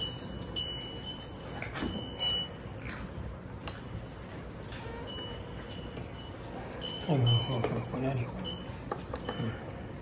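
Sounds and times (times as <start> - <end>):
kittens eating from metal bowl: 0.0 - 10.0.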